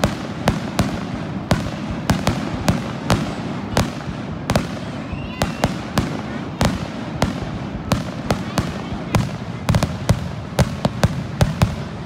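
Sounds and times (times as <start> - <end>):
continuous background rush: 0.0 - 12.0
fireworks bursting with sharp bangs: 0.0 - 12.0.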